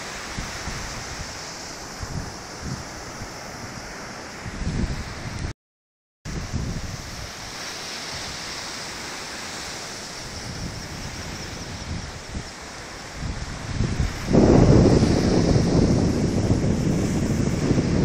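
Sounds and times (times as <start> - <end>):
surf breaking on shore: 0.0 - 5.5, 6.3 - 18.0
wind buffeting microphone: 0.0 - 5.5, 6.3 - 18.0.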